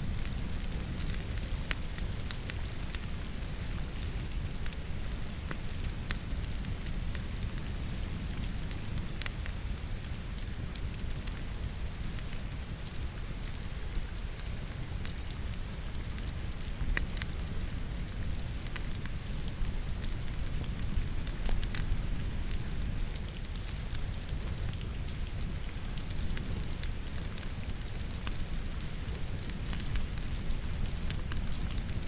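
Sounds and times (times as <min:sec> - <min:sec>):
rain pattering: 0:00.0 - 0:32.0
wood fire crackling and popping: 0:00.0 - 0:32.0.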